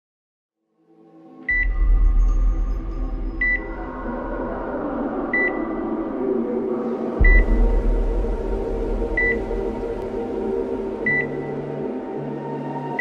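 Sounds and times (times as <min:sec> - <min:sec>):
low synth drone: 0:01.3 - 0:13.0
deep bass rumble: 0:01.5 - 0:12.4.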